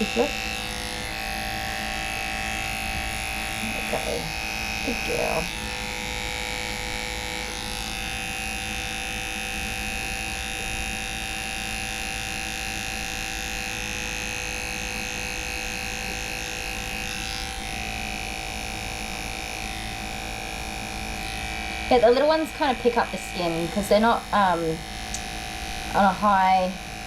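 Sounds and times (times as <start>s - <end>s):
electric clipper running: 0.0s - 27.0s.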